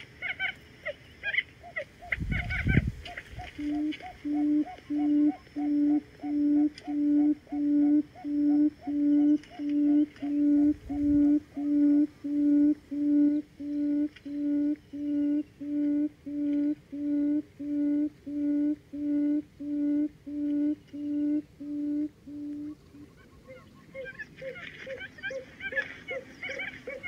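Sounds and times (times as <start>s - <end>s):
bird low hooting calls: 0.2s - 27.0s.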